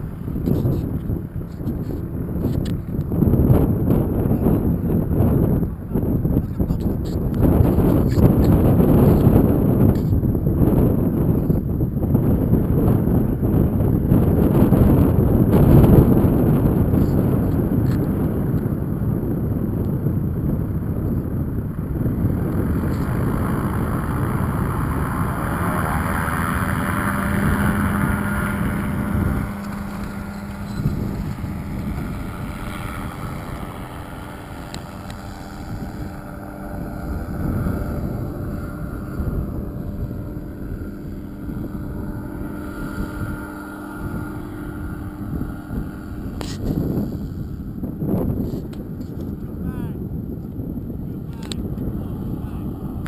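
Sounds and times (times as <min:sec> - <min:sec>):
propeller aircraft engine drone: 0:00.0 - 0:53.0
wind buffeting microphone: 0:00.0 - 0:53.0.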